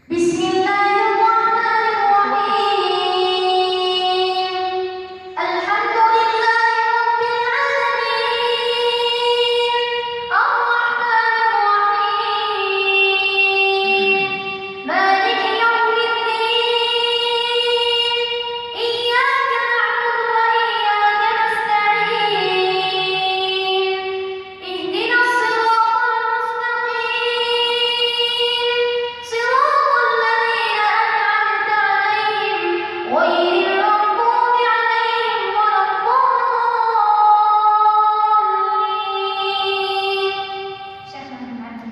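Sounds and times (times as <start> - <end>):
person reciting melodically: 0.0 - 41.9.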